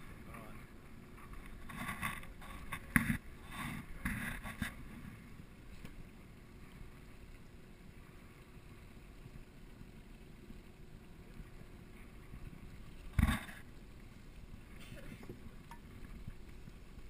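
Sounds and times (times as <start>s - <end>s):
choppy water around boat: 0.0s - 17.0s.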